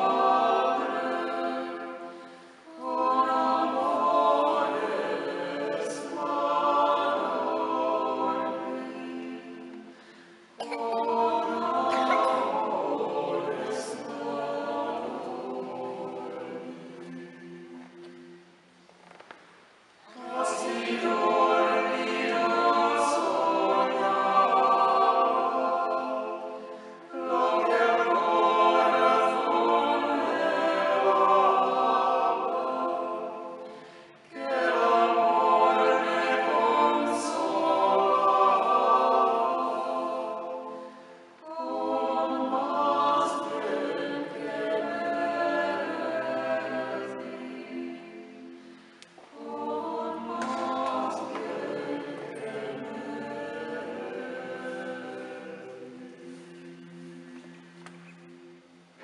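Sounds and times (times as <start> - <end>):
unaccompanied choir singing in parts: 0.0 - 18.7, 20.0 - 59.0.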